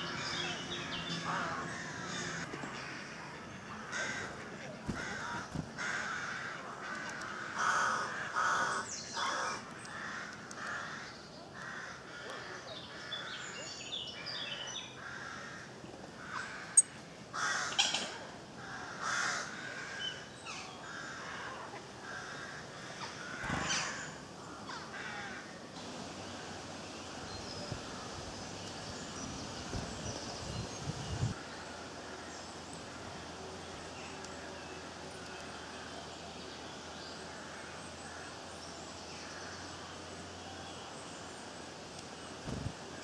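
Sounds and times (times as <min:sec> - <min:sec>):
wild birds calling: 0:00.0 - 0:43.0.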